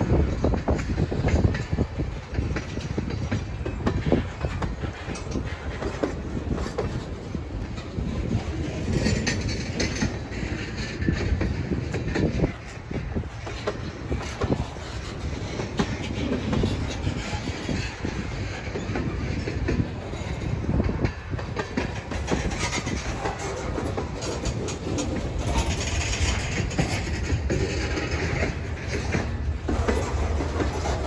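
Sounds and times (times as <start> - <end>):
train rumble: 0.0 - 31.0
train wheels clicking over rail joints: 0.0 - 31.0.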